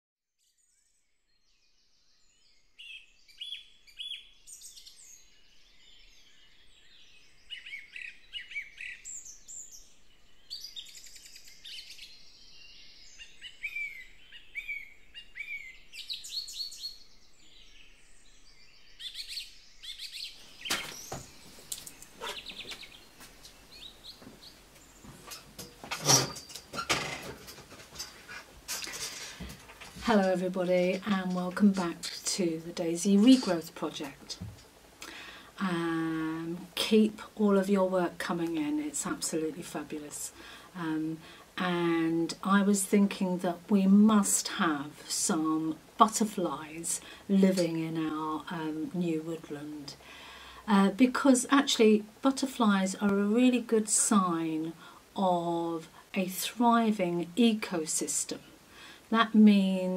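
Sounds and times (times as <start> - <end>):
songbirds singing: 0.4 - 59.9.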